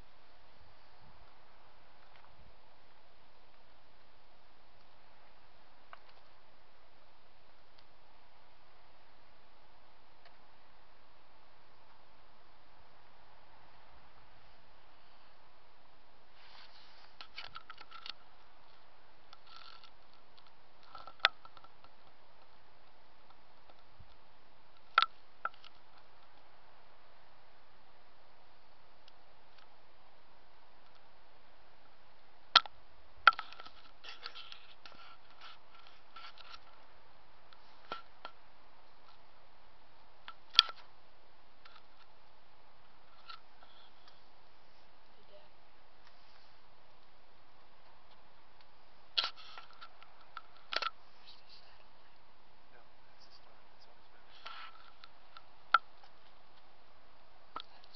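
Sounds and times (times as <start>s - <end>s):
faint hiss: 0.0s - 57.9s.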